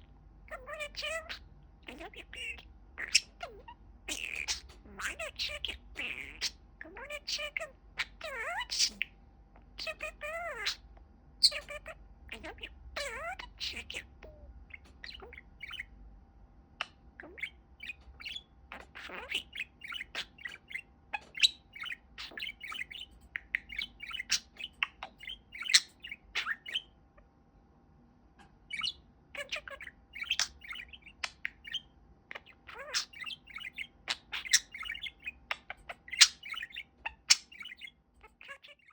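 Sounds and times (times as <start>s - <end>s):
budgerigar chattering and warbling: 0.5s - 15.9s, 16.8s - 27.0s, 28.4s - 38.9s.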